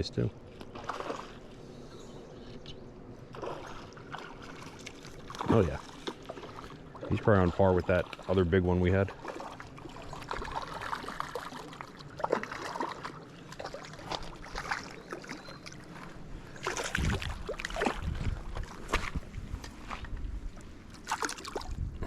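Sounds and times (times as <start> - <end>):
shallow river water splashing: 0.3 - 2.4, 3.1 - 22.0.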